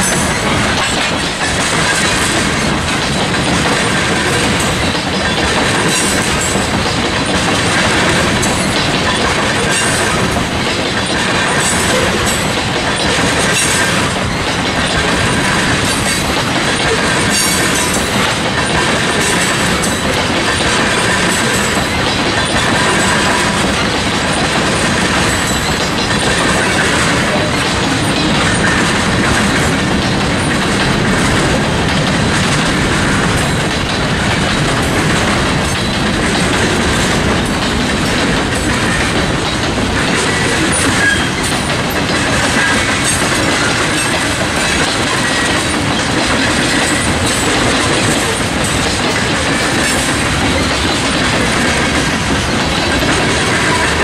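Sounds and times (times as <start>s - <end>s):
train cars rolling on rails: 0.0s - 54.0s.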